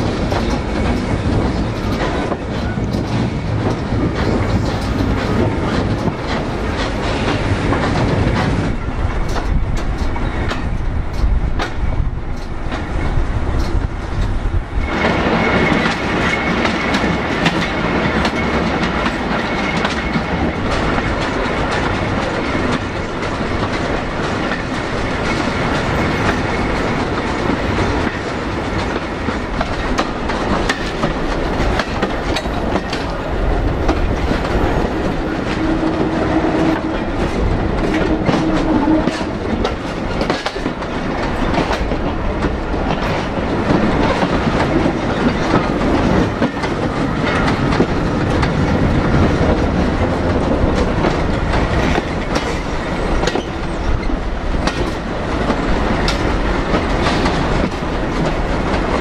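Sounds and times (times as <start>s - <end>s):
train wagons rumbling and rattling: 0.0s - 59.0s
wheels clickety-clack over rail joints: 0.0s - 59.0s.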